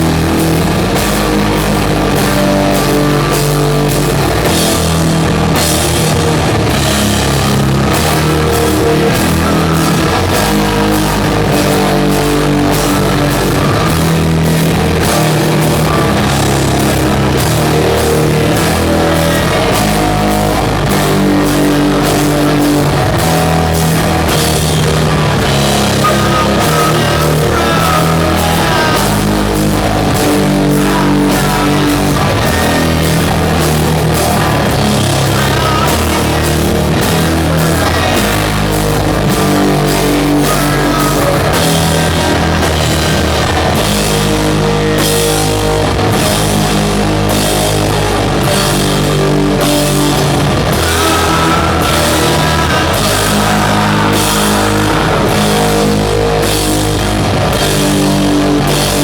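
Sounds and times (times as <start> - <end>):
doom metal band playing live: 0.0 - 59.0
drums and crashing cymbals: 0.0 - 59.0
heavy guitar and bass riff: 0.0 - 59.0.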